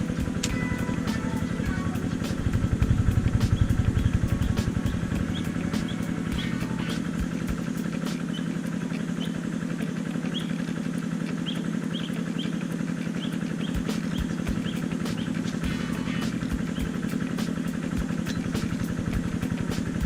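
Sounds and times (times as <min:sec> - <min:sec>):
low motor hum: 0:00.0 - 0:20.0
small bird chirping: 0:00.0 - 0:20.0.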